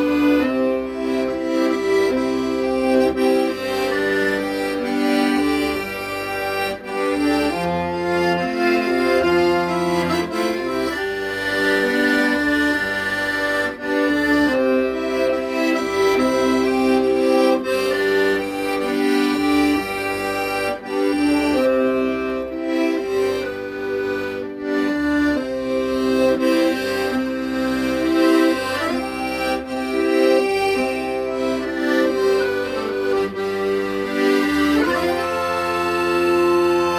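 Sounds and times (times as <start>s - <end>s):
solo accordion melody: 0.0s - 36.9s.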